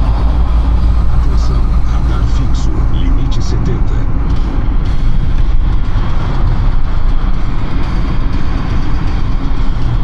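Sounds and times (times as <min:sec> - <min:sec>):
car road noise: 0:00.0 - 0:10.0
deep low rumble: 0:00.0 - 0:10.0.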